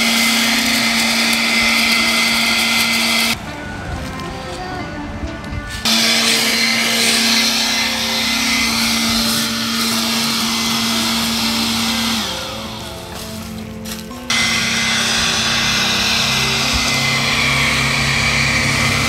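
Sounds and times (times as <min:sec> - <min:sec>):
leaf blower running: 0:00.0 - 0:04.7, 0:05.7 - 0:19.0.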